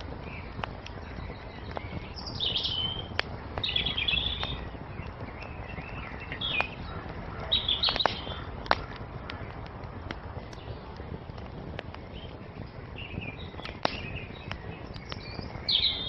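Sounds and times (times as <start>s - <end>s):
fire popping: 0.0s - 16.0s
songbirds chirping: 0.0s - 16.0s
wood fire crackling: 0.0s - 16.0s.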